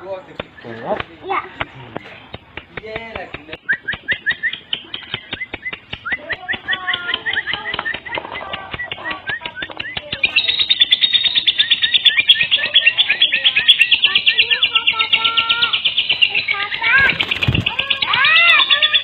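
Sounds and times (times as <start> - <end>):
lovebird chirping and trilling: 3.4 - 19.0.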